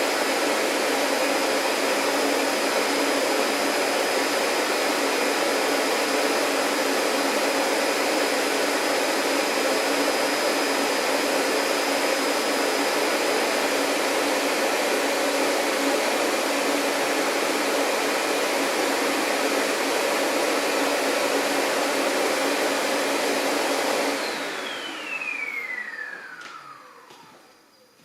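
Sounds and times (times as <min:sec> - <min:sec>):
vacuum motor winding down: 0:00.0 - 0:27.8
vacuum cleaner running: 0:00.0 - 0:28.0.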